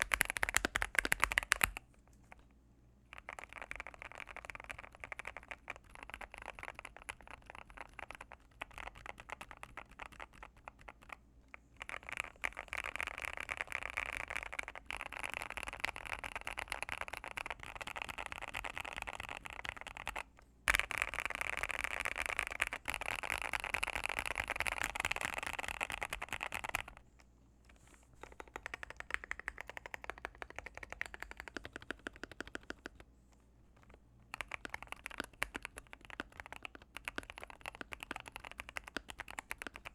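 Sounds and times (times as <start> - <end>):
fast typing on mechanical keyboard: 0.0 - 1.8, 3.1 - 11.2, 11.8 - 27.0, 28.2 - 33.0, 33.8 - 39.9.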